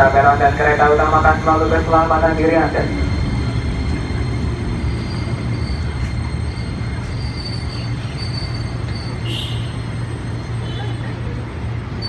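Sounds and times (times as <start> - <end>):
electric train rumbling: 0.0 - 12.0
train wheel squeals: 2.3 - 12.0.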